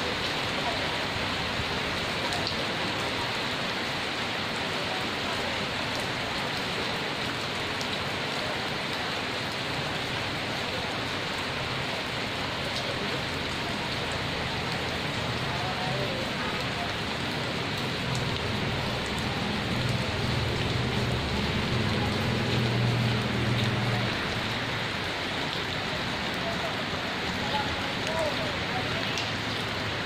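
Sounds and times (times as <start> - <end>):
heavy rain on a leafy tree: 0.0 - 30.0.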